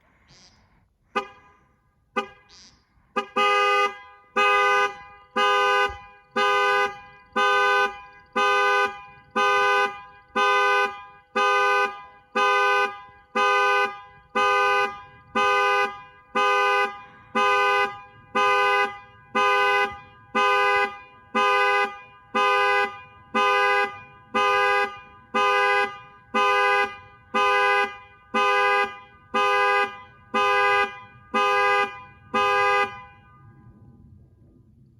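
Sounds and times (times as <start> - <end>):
two-tone car horn honking: 1.1 - 33.5.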